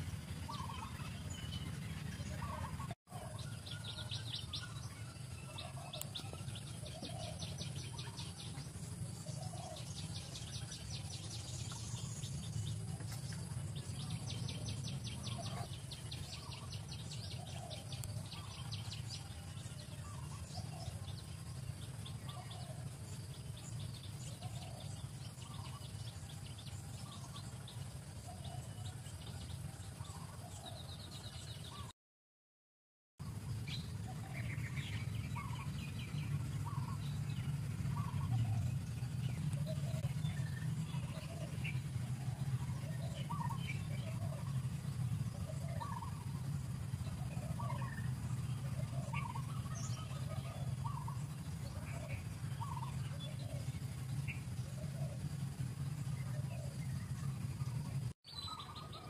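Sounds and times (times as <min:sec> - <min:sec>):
bird trills and chirps: 0:00.0 - 0:31.9, 0:33.4 - 0:59.0
steady low hum: 0:00.0 - 0:31.9, 0:33.2 - 0:59.0.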